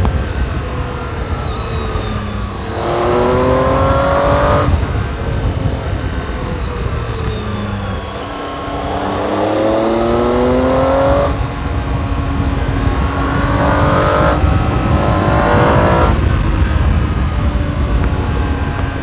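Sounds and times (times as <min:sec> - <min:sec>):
motorcycle engine accelerating: 0:00.0 - 0:19.0
wind rumble on microphone: 0:00.0 - 0:19.0.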